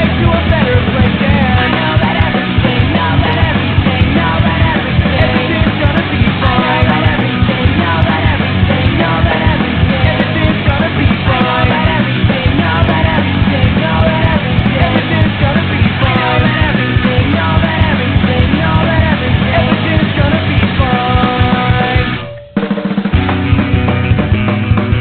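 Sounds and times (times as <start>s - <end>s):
person singing: 0.0s - 22.5s
loud rock music: 0.0s - 25.0s.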